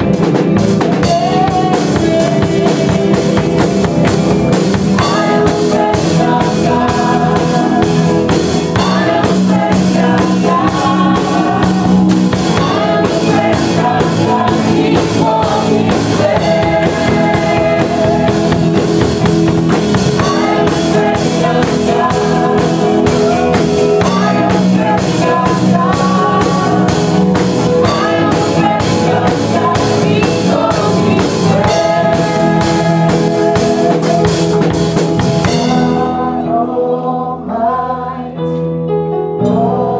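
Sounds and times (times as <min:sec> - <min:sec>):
drum kit beat: 0:00.0 - 0:36.2
band playing: 0:00.0 - 0:38.6
voices singing: 0:00.0 - 0:38.6.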